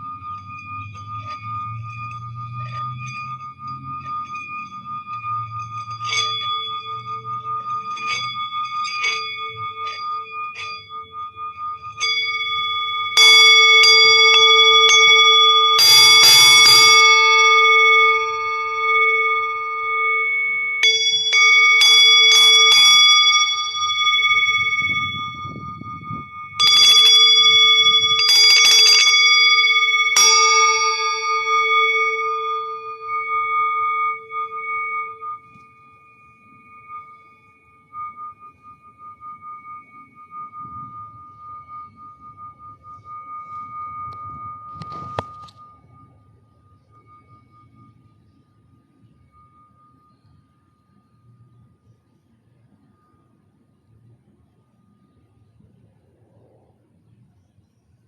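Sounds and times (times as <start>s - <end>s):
singing bowl ringing: 0.0s - 58.0s.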